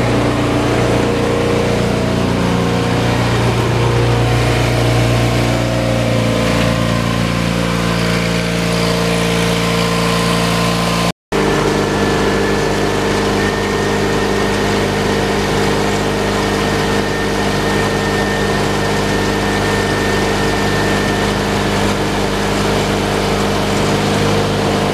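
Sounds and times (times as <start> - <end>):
gasoline engine running: 0.0 - 24.9.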